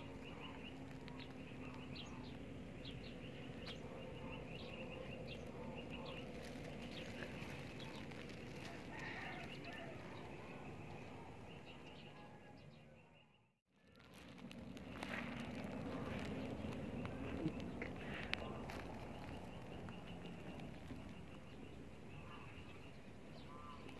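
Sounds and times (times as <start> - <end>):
birds chirping and calling: 0.0 - 13.4, 14.8 - 23.9.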